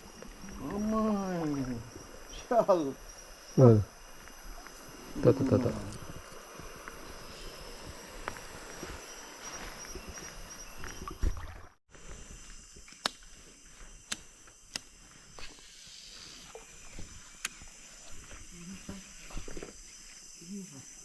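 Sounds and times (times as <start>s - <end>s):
forest ambience: 0.0s - 21.0s.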